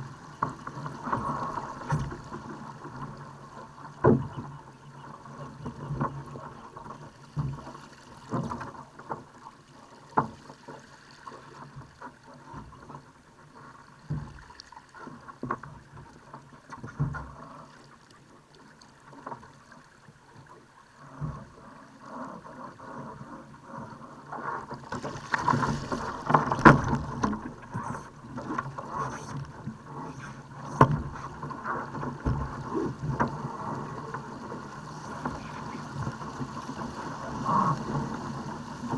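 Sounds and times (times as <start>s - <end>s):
water slapping against boat hull: 0.0s - 17.4s, 22.9s - 38.9s
boat knocks and splashes: 0.0s - 38.9s.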